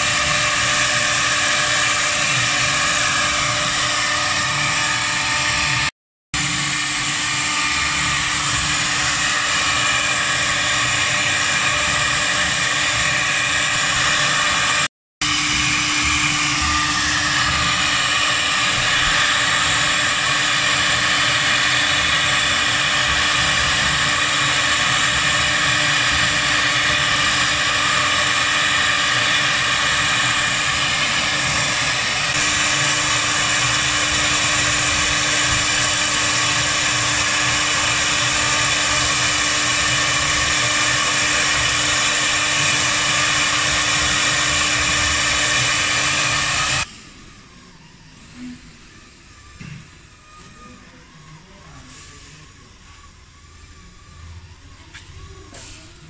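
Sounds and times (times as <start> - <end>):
bit cutting wood: 0.0 - 46.9
cnc router spindle whine: 0.0 - 56.0.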